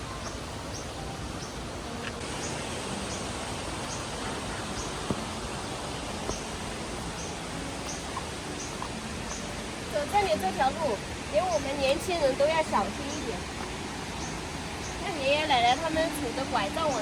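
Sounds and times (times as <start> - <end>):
floodwater rushing in stream: 0.0 - 17.0.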